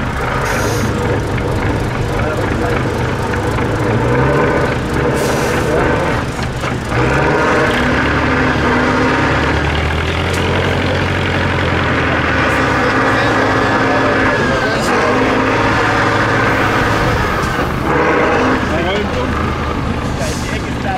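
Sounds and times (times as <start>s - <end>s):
diesel truck engine revving: 0.0s - 20.9s.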